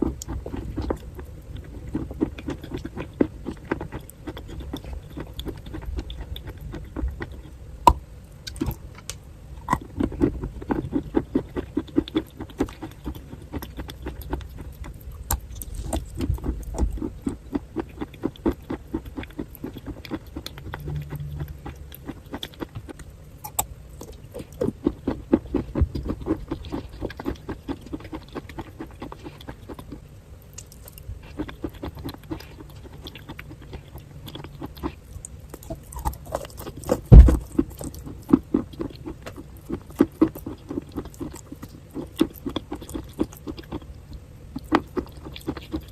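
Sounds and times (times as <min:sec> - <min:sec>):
chewing crunchy clay: 0:00.0 - 0:45.9.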